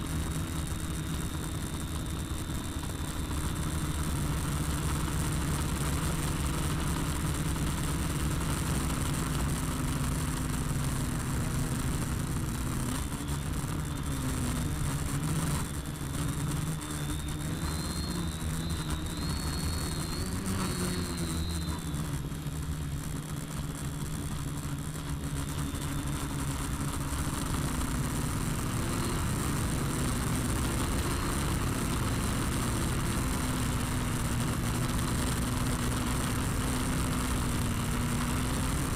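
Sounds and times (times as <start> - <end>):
quadcopter propellers whirring: 0.0 - 38.9.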